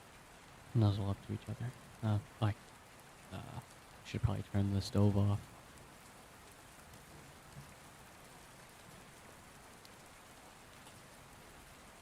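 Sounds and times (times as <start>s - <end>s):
falling rain hiss: 0.0s - 12.0s
light rain patter: 0.0s - 12.0s.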